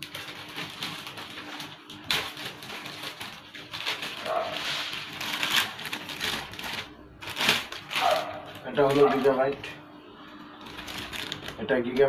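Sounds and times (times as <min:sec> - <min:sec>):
plastic bag crinkling: 0:00.0 - 0:09.6, 0:10.5 - 0:12.0.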